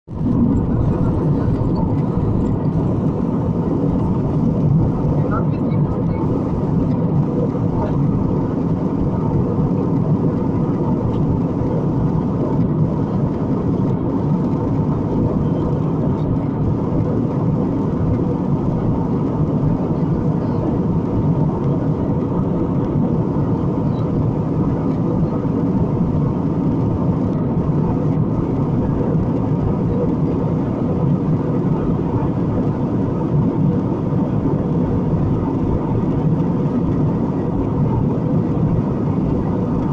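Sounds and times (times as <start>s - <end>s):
airliner cabin engine drone: 0.1s - 39.9s.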